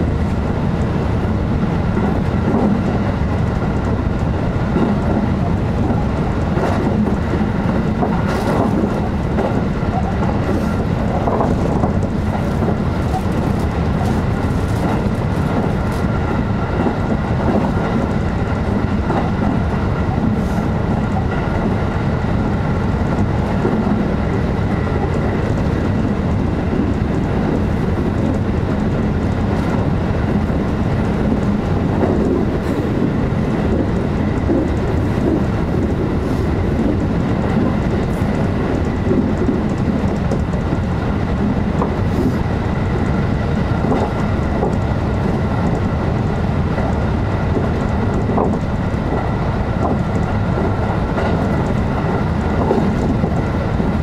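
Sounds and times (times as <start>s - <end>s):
wheels clicking over rail joints: 0.0s - 54.0s
wheels rumbling on rail: 0.0s - 54.0s.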